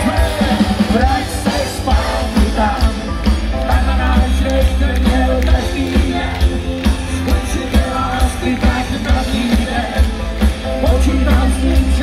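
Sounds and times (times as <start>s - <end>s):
heavy bass: 0.0s - 12.0s
person singing: 0.0s - 12.0s
steady drum beat: 0.0s - 12.0s.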